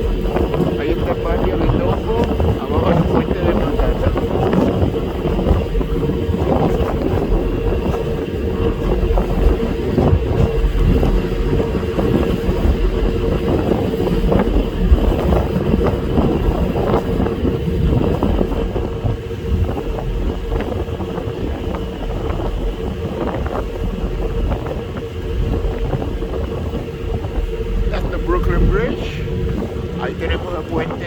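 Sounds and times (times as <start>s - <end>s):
ferry engines droning: 0.0s - 31.0s
wind buffeting microphone: 0.0s - 31.0s.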